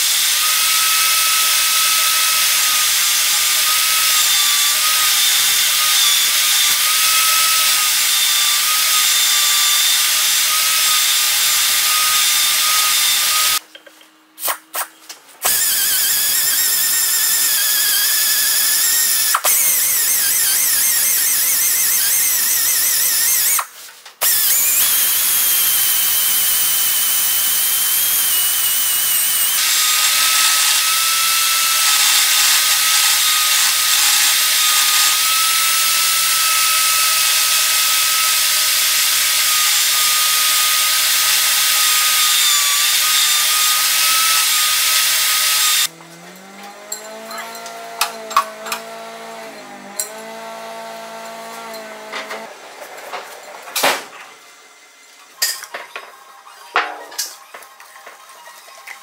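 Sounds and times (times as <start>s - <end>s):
angle grinder sanding metal: 0.0s - 13.6s, 14.5s - 54.8s.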